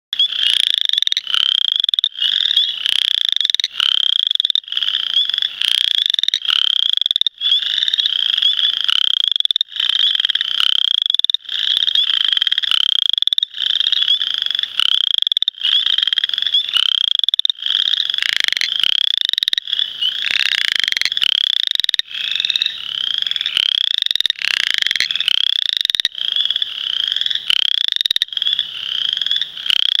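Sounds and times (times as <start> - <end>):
frogs calling in trills: 0.2 - 30.0.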